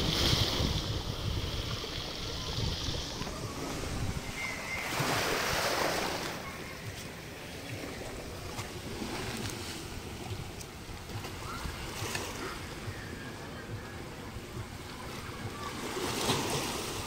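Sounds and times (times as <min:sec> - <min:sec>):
waves lapping against rocks: 0:00.0 - 0:17.0.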